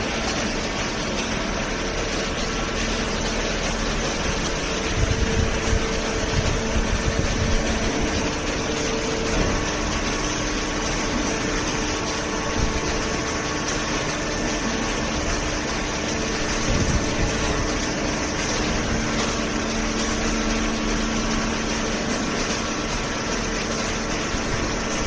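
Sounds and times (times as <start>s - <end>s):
baler motor and pump humming: 0.0s - 25.0s.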